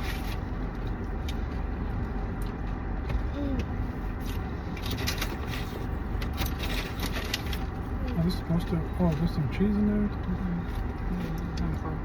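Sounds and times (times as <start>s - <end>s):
low cabin hum: 0.0s - 12.0s.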